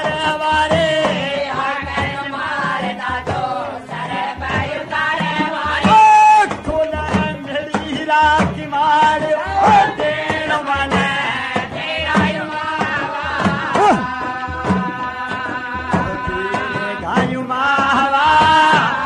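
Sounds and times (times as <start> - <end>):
hand drums beaten with sticks: 0.0 - 19.0
men singing devotional song: 0.0 - 19.0.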